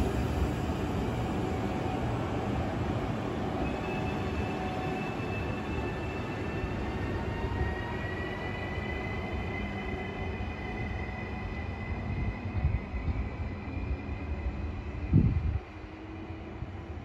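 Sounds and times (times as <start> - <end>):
train rumble with high whine: 0.0 - 17.0.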